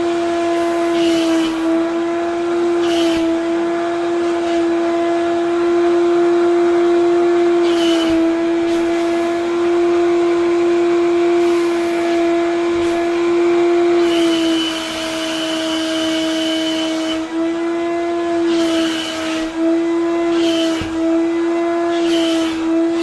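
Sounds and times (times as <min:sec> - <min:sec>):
wet vacuum cleaner whine: 0:00.0 - 0:23.0.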